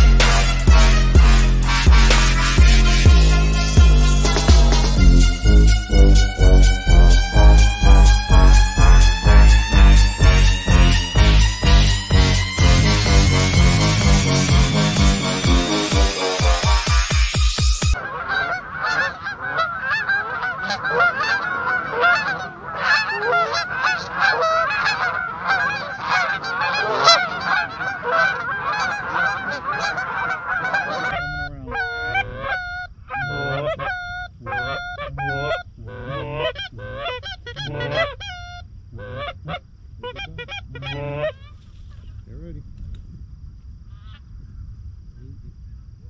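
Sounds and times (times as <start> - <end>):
geese honking: 0.0 - 41.5.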